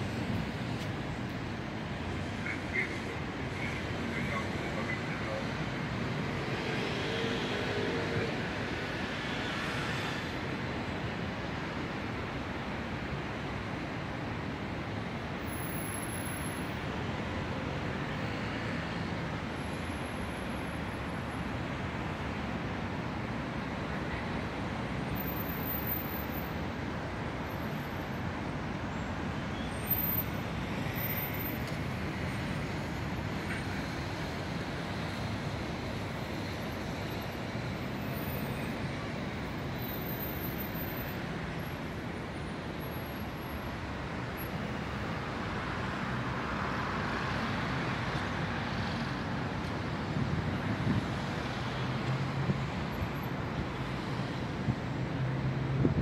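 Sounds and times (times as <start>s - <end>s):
road traffic rushing past: 0.0s - 56.0s.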